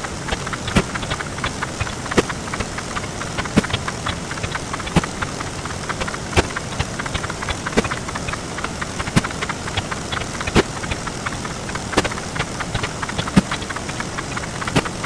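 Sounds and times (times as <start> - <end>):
rapid clatter of clicks: 0.0 - 15.0.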